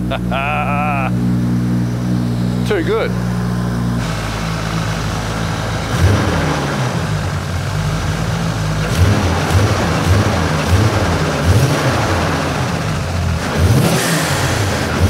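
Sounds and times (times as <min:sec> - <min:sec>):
car engine idling: 0:00.0 - 0:15.0
engine revving: 0:00.0 - 0:15.0.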